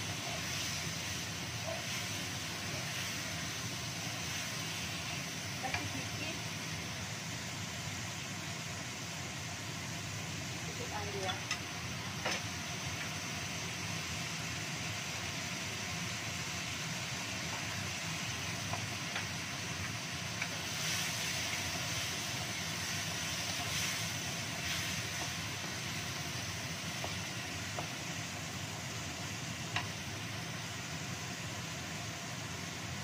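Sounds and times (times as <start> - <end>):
sauce simmering in a wok: 0.0 - 33.0.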